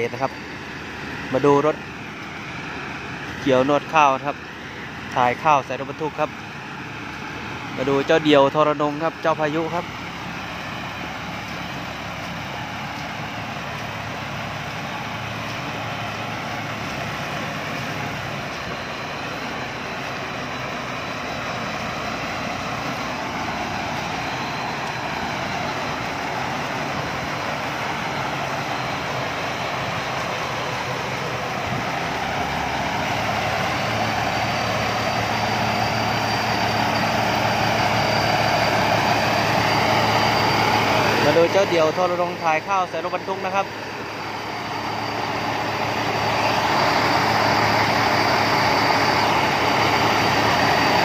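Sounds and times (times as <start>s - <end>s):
combine harvester machinery running: 0.0s - 51.0s.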